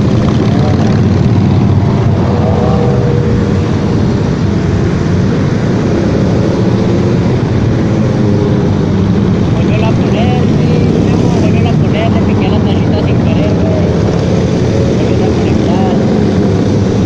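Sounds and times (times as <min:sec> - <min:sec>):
motorcycle running: 0:00.0 - 0:17.0.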